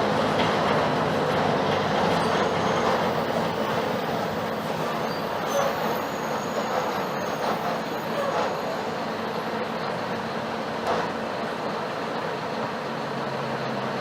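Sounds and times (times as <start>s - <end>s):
bus diesel engine running: 0.0s - 14.0s
road noise: 0.0s - 14.0s.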